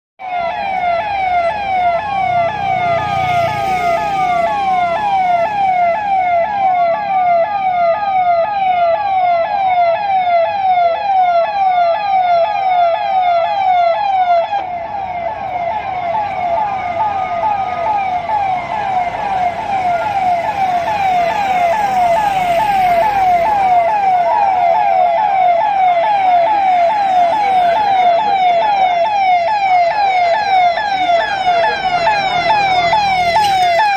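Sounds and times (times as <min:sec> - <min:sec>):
police siren yelp: 0:00.2 - 0:33.9
siren wail: 0:00.2 - 0:33.9.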